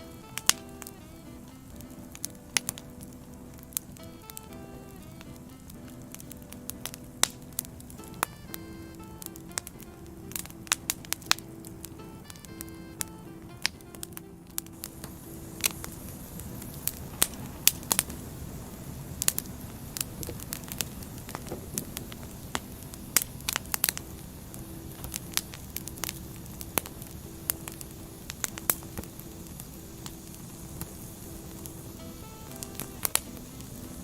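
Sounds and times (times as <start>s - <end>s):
low rush of burning logs: 0.0s - 34.0s
wood fire crackling and popping: 0.0s - 34.0s.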